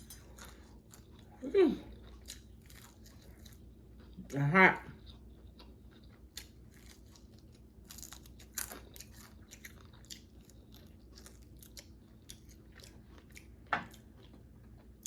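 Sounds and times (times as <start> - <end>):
chewing crispy chicken: 0.0 - 15.0
faint steady hum: 0.0 - 15.0.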